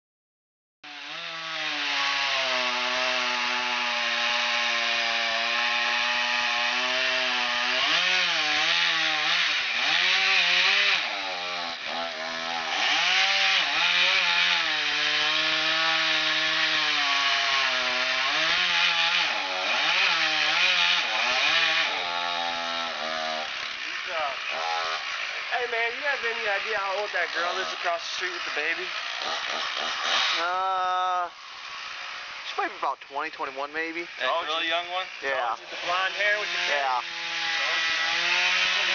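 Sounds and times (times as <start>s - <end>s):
chainsaw cutting wood: 0.8s - 38.9s.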